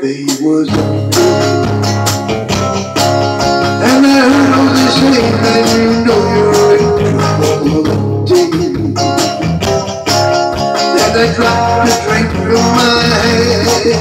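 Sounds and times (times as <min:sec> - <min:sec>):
strummed electric guitar chords: 0:00.0 - 0:14.0
bass line: 0:00.7 - 0:14.0.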